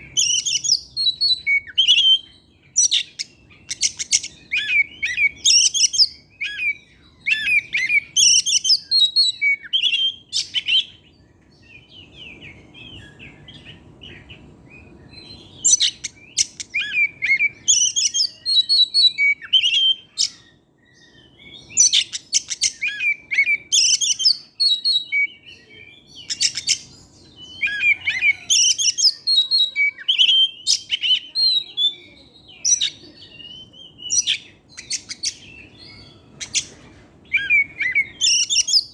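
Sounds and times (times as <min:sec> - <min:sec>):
bird whistling song: 0:00.0 - 0:38.9.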